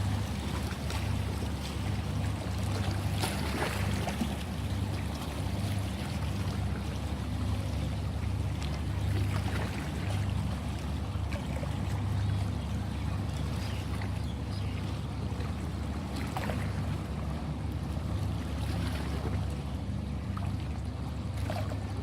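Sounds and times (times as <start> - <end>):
sea water lapping: 0.0 - 22.0.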